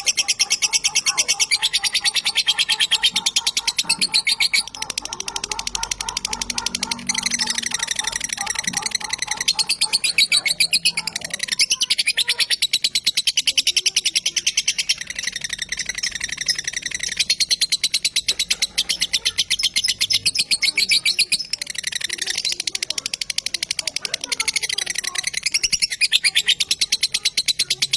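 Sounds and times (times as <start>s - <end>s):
lovebird rattling chatter: 0.0s - 27.9s.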